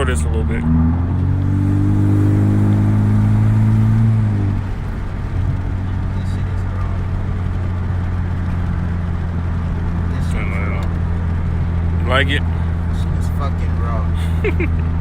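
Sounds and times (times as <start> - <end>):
car engine pulling hard: 0.0 - 15.0
engine and road noise drone: 0.0 - 15.0.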